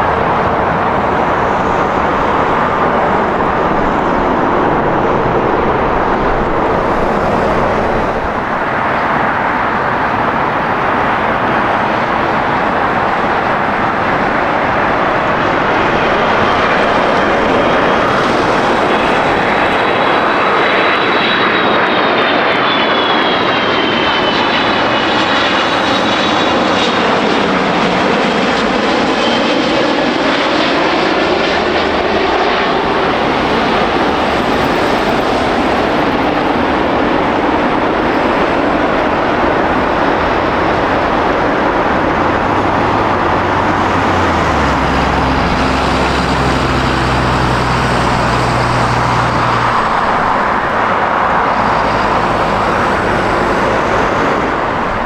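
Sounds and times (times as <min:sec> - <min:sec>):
high engine whine: 0:00.0 - 0:55.0
jet engines rushing: 0:00.0 - 0:55.0.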